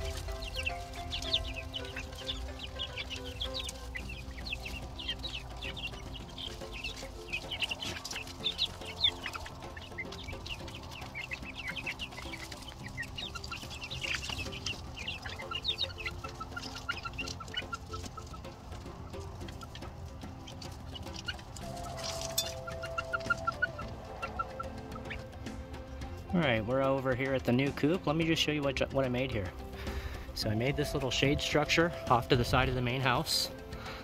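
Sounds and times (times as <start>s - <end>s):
chicks peeping and clucking: 0.0s - 34.0s.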